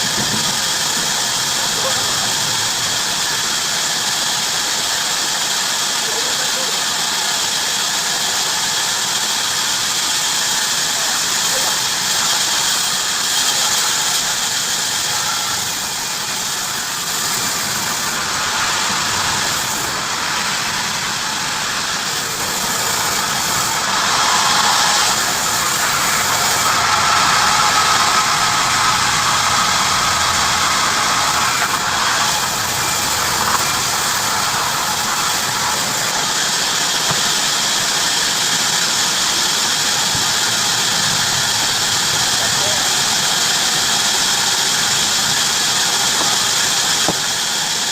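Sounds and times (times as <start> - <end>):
bandsaw cutting wood: 0.0 - 47.9.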